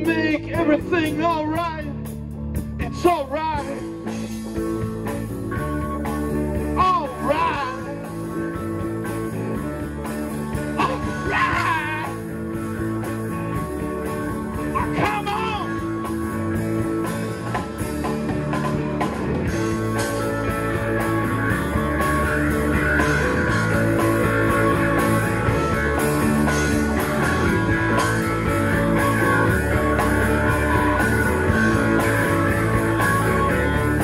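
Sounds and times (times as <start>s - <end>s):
bass: 0.0s - 34.0s
drums: 0.0s - 34.0s
guitar: 0.0s - 34.0s
keyboard: 0.0s - 34.0s.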